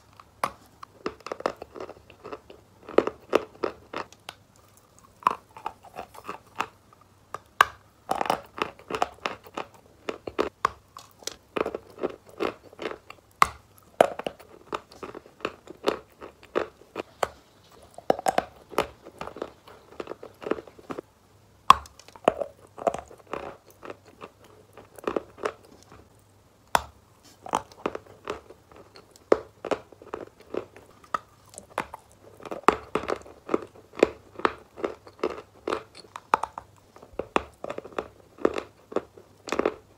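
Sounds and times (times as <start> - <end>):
wet crunching chews: 0.0 - 21.0, 21.8 - 26.1, 26.8 - 39.9.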